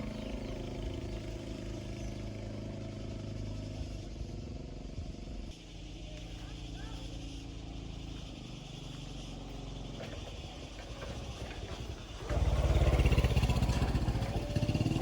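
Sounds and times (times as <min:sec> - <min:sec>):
motor running with low pulsing: 0:00.0 - 0:15.0.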